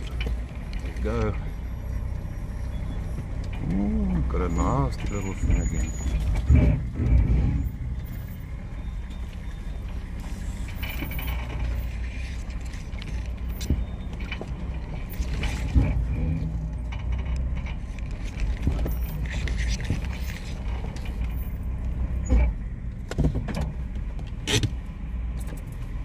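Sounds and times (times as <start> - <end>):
off-road vehicle engine running low: 0.0 - 26.0.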